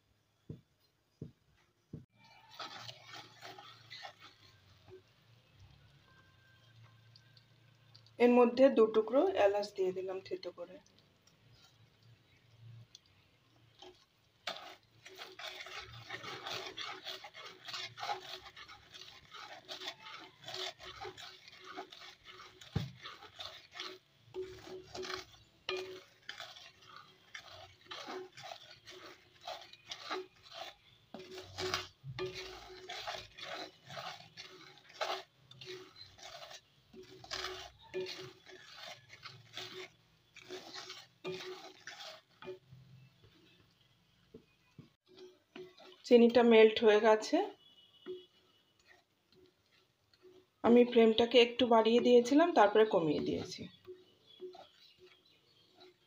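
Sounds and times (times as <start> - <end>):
wooden spatula scraping metal pan: 1.9 - 56.0.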